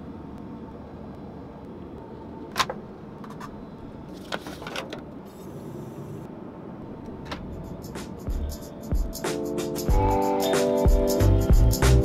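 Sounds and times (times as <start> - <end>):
airliner cabin hum: 0.0 - 10.1.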